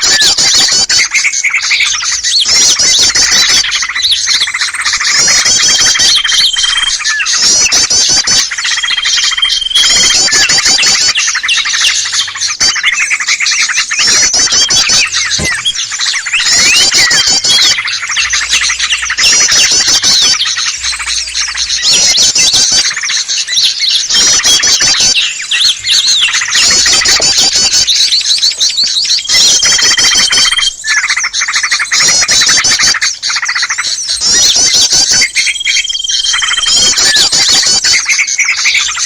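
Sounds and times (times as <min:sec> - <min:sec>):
small birds chirping and trilling: 0:00.0 - 0:39.0.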